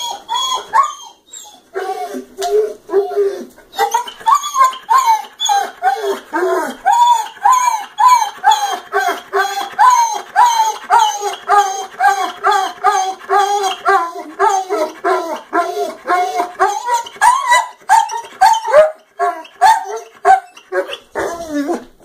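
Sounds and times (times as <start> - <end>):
dog whining and yowling: 0.0 - 22.0.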